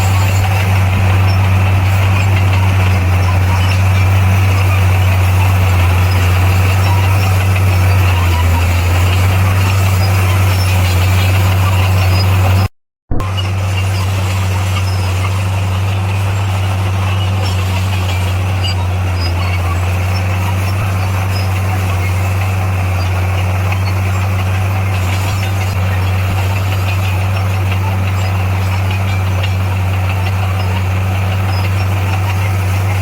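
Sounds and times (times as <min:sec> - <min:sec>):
heavy diesel engine humming: 0:00.0 - 0:33.0.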